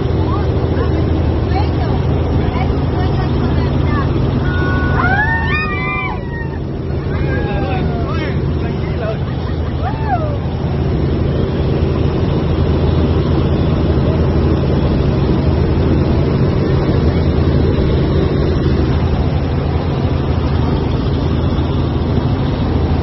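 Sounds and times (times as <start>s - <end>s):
helicopter engine and rotor drone: 0.0s - 23.0s.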